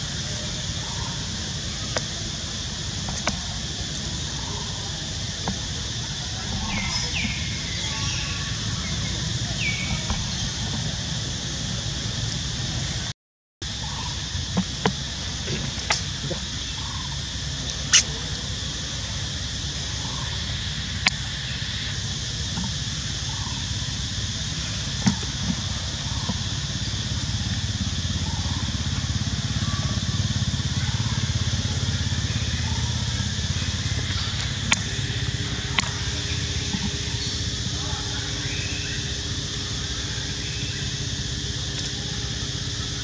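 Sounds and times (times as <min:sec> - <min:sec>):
high steady hiss: 0:00.0 - 0:43.0.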